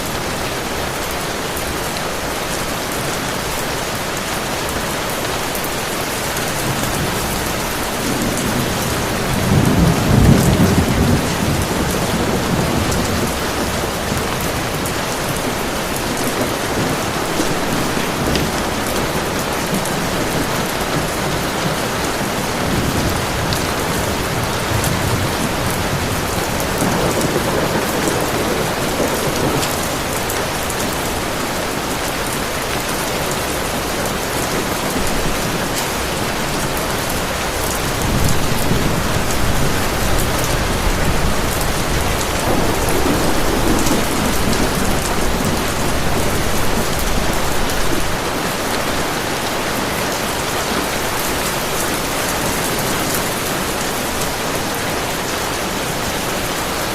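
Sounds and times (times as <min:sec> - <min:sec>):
heavy rain hissing: 0:00.0 - 0:56.9
distant thunder rumbling: 0:06.5 - 0:54.3.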